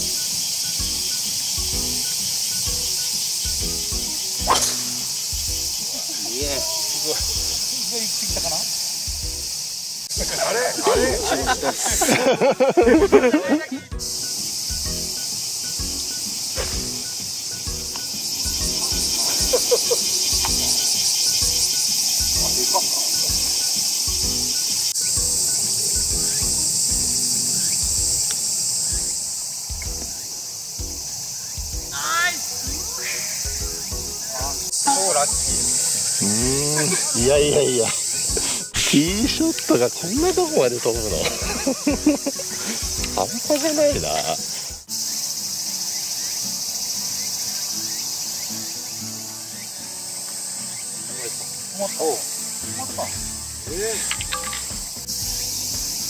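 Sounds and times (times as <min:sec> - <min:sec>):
low rhythmic thumps: 0:00.0 - 0:44.9, 0:52.5 - 0:56.0
high-pitched insect chorus: 0:00.0 - 0:56.0
soft background music: 0:00.0 - 0:56.0.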